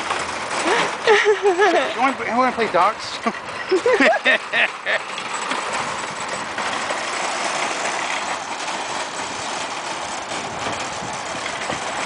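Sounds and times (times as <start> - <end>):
shopping cart rattling on asphalt: 0.0 - 12.0.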